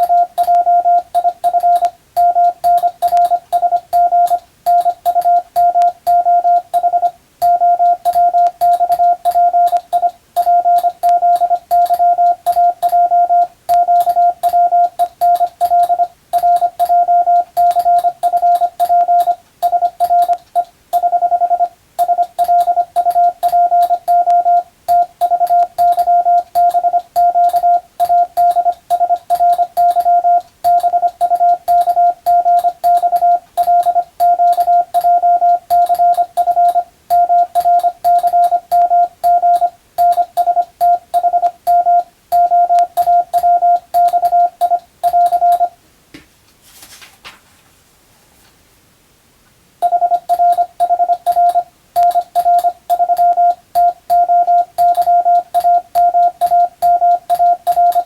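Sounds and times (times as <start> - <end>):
morse code beeps: 0.0 - 45.8, 49.8 - 58.0.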